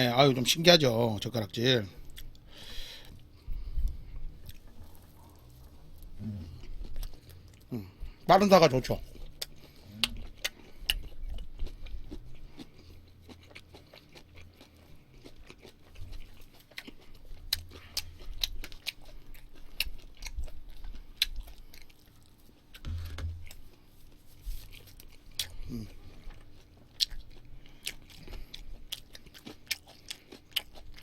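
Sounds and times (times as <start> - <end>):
person chewing: 1.3 - 31.0.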